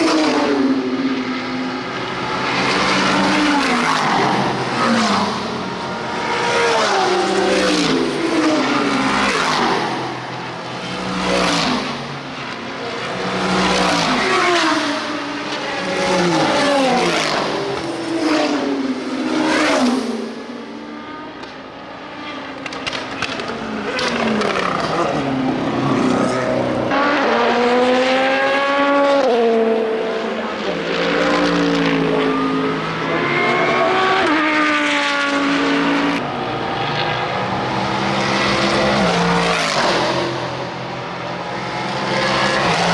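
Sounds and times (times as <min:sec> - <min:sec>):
race cars passing at speed: 0:00.0 - 0:42.9.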